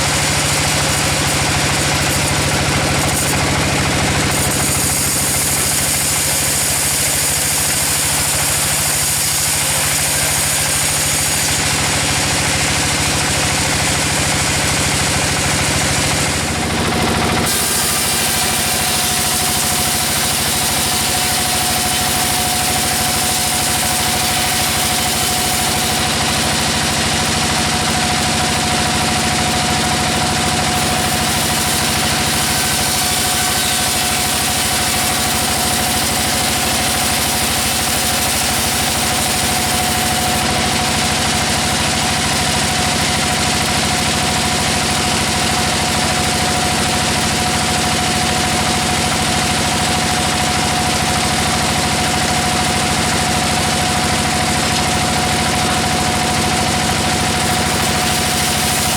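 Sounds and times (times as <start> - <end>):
sawmill machinery drone: 0.0 - 58.9.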